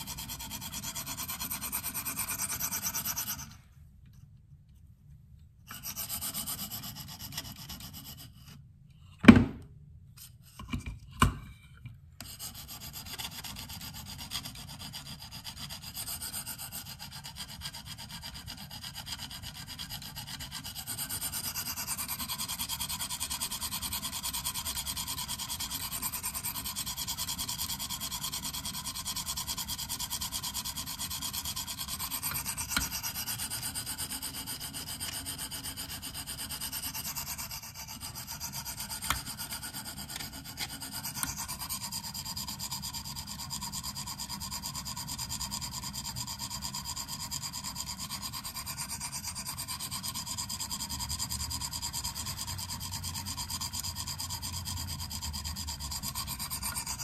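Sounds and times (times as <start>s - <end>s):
sharpener rasping on knife blade: 0.0s - 3.6s, 5.7s - 8.6s, 12.2s - 57.0s.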